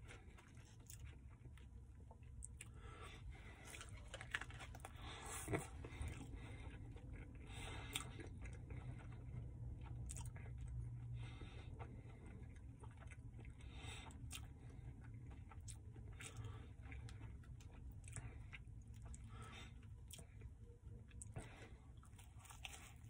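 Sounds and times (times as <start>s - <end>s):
low steady hum: 0.0s - 23.0s
person chewing food: 0.0s - 23.0s.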